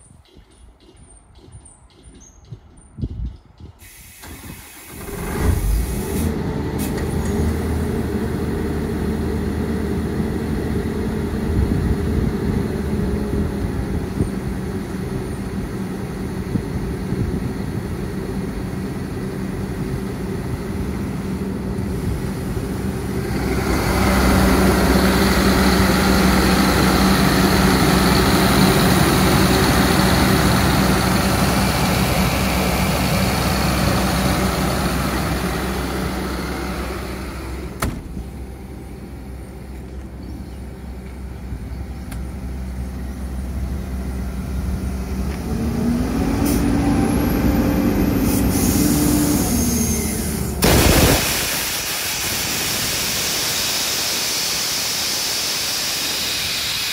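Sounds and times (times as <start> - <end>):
diesel compressor engine running: 3.8 - 56.9.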